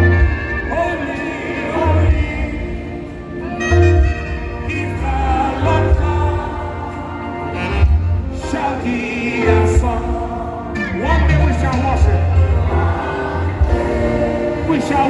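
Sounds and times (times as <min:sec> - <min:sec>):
voices singing worship song: 0:00.0 - 0:15.0.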